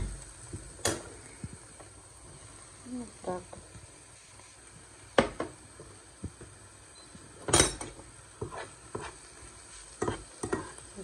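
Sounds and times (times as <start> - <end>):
faint onions sizzling: 0.0 - 11.0.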